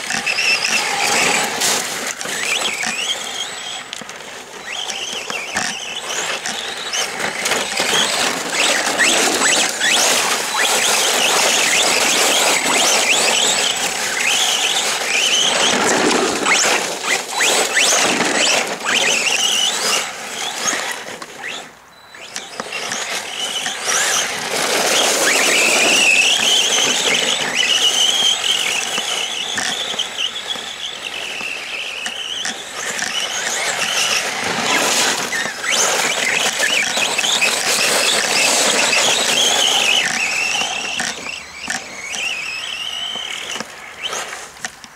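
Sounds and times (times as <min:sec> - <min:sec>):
toy truck motor whining: 0:00.0 - 0:44.9
tyres on wet gravel: 0:00.0 - 0:44.9.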